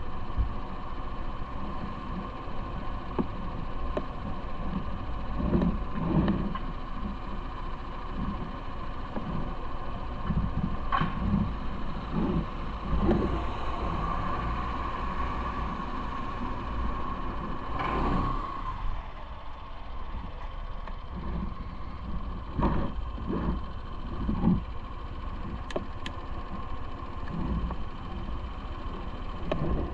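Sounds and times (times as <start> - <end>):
thin steady whine: 0.0 - 29.9
traffic rumble: 0.0 - 29.9.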